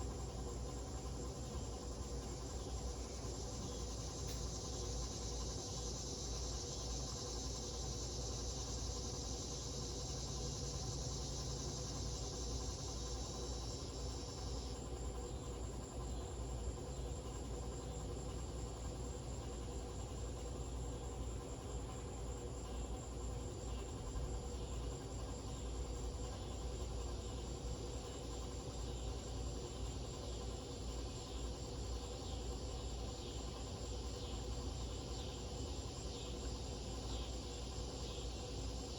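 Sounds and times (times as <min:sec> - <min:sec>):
ceiling fan humming: 0:00.0 - 0:38.9.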